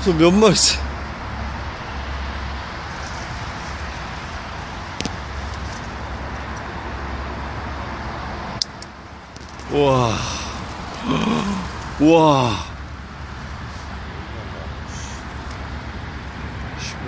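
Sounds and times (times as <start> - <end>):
distant road traffic hum: 0.0 - 17.0.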